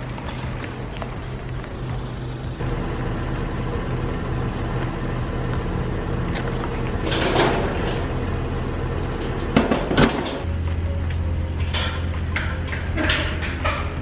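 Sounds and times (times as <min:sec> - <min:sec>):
trailer rolling and rattling: 0:00.0 - 0:14.0
vehicle engine idling: 0:00.0 - 0:14.0.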